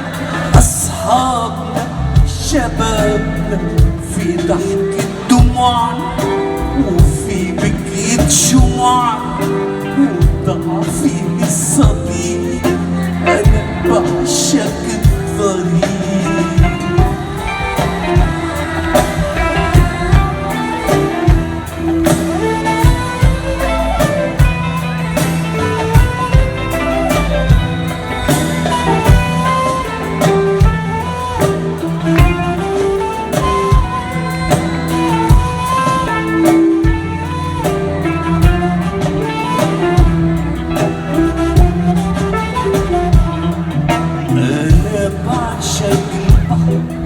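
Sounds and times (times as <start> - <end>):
drum kit steady beat: 0.0 - 47.0
melodic lead line: 0.0 - 47.0.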